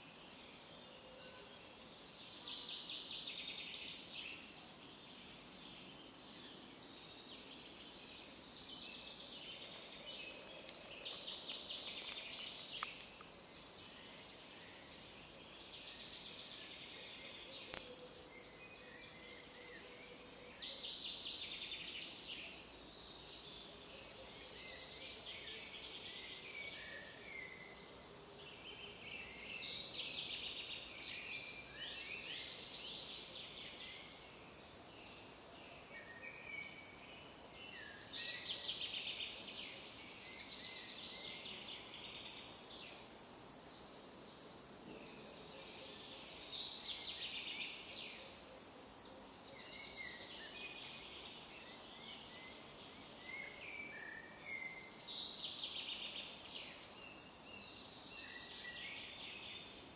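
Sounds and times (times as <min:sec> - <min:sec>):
songbirds singing trilled song: 0:00.0 - 0:59.9
steady outdoor hiss: 0:00.0 - 0:59.9.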